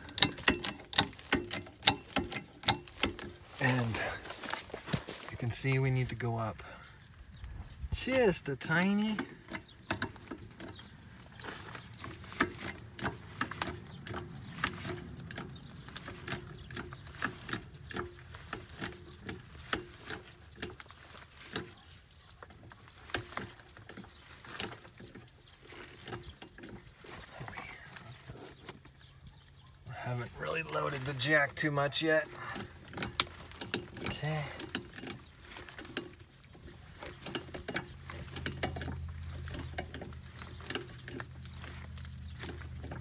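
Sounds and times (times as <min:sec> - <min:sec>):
jack clicking and knocking: 0:00.0 - 0:06.9, 0:07.5 - 0:43.0.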